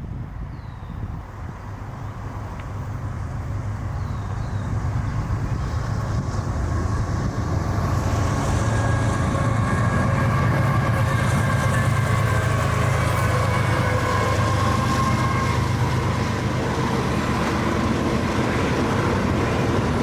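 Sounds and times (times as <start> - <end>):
diesel locomotive drone: 0.0 - 20.0.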